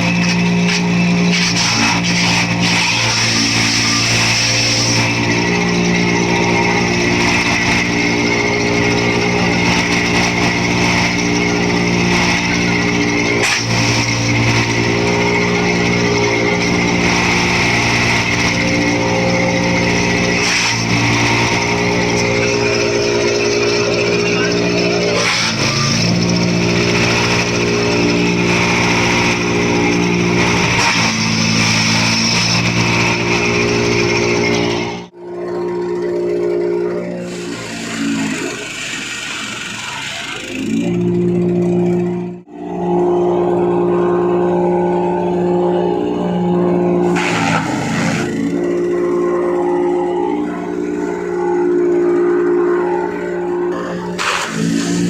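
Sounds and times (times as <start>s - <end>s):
wood chipper running: 0.0s - 55.0s.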